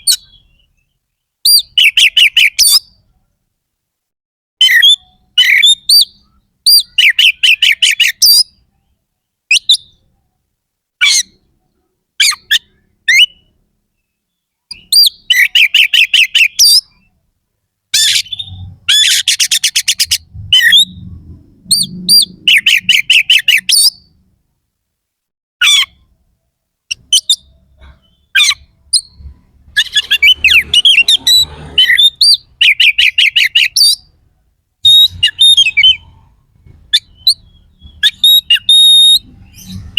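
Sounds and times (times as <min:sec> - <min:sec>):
bird singing harsh phrases: 0:00.0 - 0:03.1, 0:04.6 - 0:10.2, 0:11.0 - 0:17.2, 0:17.9 - 0:21.1, 0:21.7 - 0:24.2, 0:25.6 - 0:26.1, 0:26.9 - 0:39.9.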